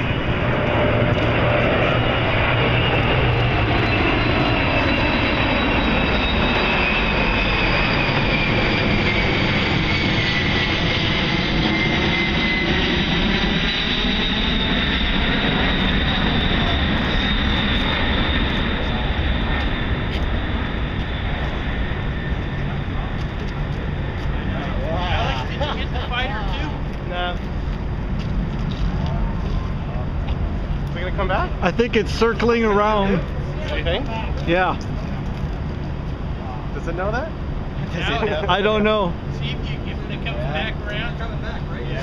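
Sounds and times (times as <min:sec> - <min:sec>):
jet aircraft roar overhead: 0:00.0 - 0:42.0.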